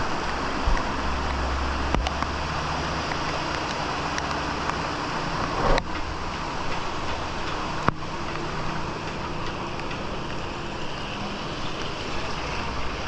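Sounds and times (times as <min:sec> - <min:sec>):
heavy rain: 0:00.0 - 0:13.0
running floodwater: 0:00.0 - 0:13.0.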